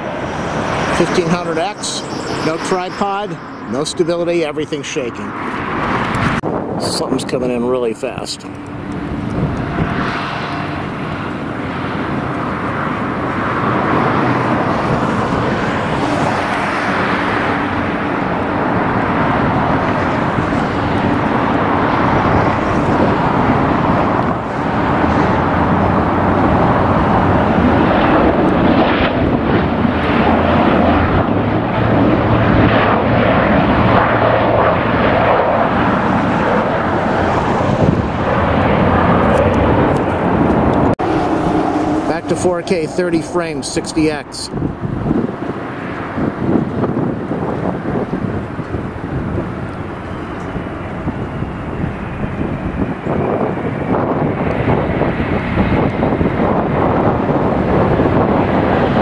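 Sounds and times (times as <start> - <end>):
jet airliner engine noise: 0.0 - 59.0.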